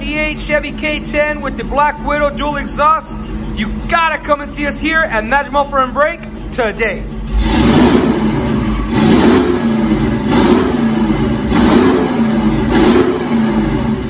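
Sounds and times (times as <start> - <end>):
car engine revving: 0.6 - 14.0.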